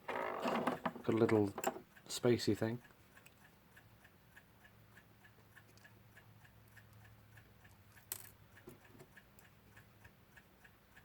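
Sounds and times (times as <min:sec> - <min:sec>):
mechanical clock ticking: 0:00.7 - 0:11.0.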